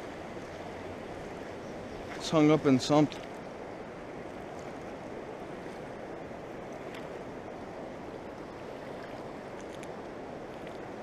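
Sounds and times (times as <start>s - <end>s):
fast river rushing: 0.0s - 11.0s.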